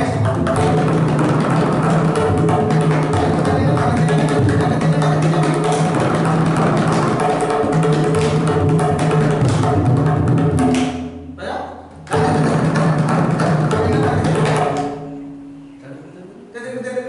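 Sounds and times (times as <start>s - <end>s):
tabla playing fast strokes: 0.0s - 11.3s, 12.0s - 15.6s.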